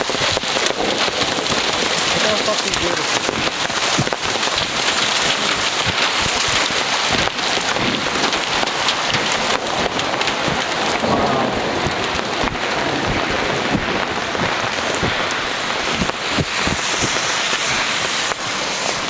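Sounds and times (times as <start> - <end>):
heavy rain on umbrella: 0.0 - 19.0.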